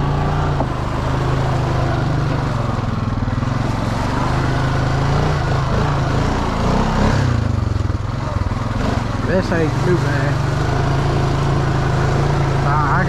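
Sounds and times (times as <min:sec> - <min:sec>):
quad bike engine droning: 0:00.0 - 0:13.0.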